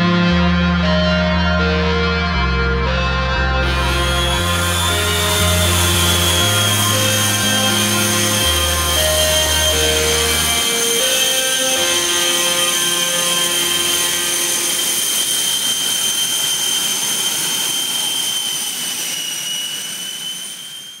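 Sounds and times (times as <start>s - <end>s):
jet engine whine and roar: 3.6s - 21.0s.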